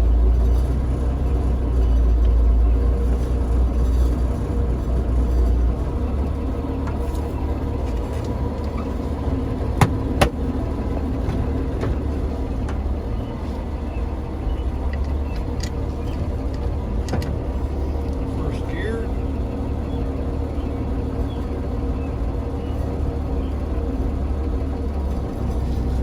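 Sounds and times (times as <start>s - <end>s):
truck engine rumbling: 0.0s - 26.0s.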